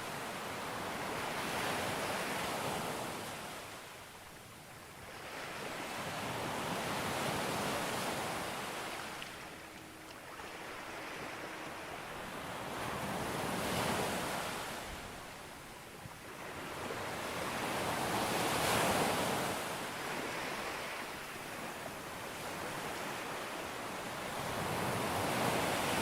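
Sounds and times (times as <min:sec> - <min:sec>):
sea waves breaking on beach: 0:05.0 - 0:26.0.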